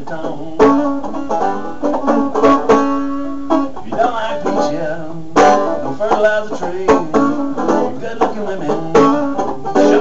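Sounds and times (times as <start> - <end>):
banjo picking a tune: 0.0 - 10.0
loud banjo chord: 0.0 - 10.0.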